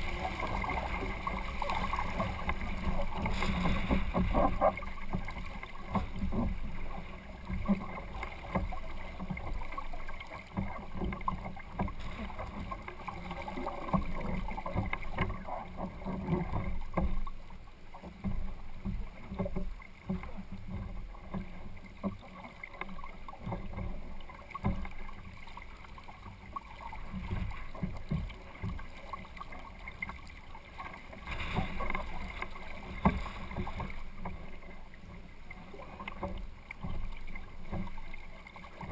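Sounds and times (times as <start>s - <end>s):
water lapping against kayak hull: 0.0s - 38.9s.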